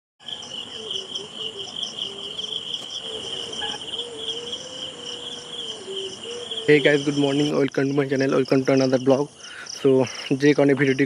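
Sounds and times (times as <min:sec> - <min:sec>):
crickets chirping: 0:00.2 - 0:11.0.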